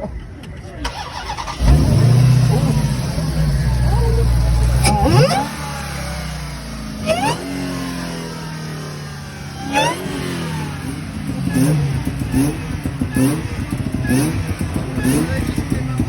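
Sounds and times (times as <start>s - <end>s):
car engine revving: 0.9s - 16.0s.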